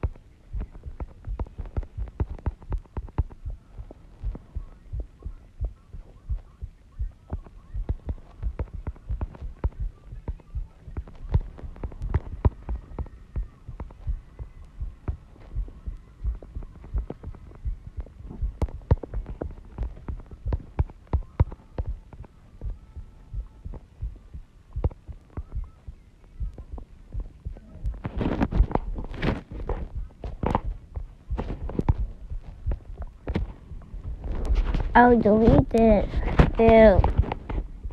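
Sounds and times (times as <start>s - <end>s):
faint hum: 0.0s - 37.9s
fingertips tapping touchscreen: 0.0s - 37.9s.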